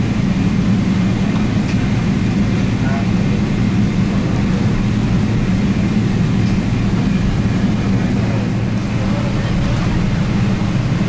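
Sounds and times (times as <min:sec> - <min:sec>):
airplane cabin low drone: 0:00.0 - 0:11.0.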